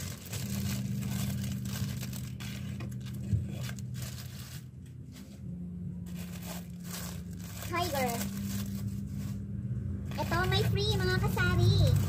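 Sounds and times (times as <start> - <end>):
plastic wrappers rustling: 0.0 - 5.3, 6.0 - 9.5, 10.1 - 12.0
steady low hum: 0.0 - 12.0.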